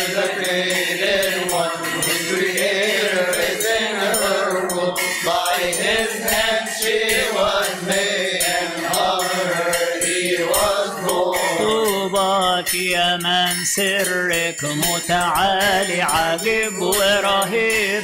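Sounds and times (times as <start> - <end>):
voices chanting a hymn: 0.0 - 13.1, 14.1 - 18.0
small percussion strikes: 0.0 - 18.0.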